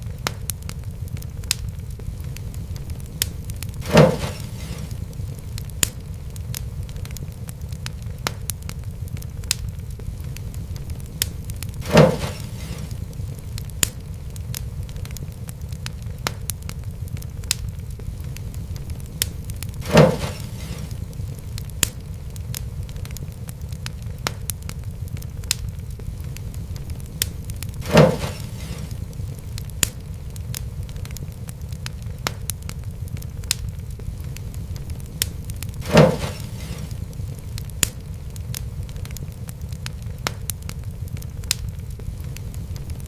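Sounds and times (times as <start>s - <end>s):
loud fire pops: 0.0s - 43.0s
wood fire crackling: 0.0s - 43.0s.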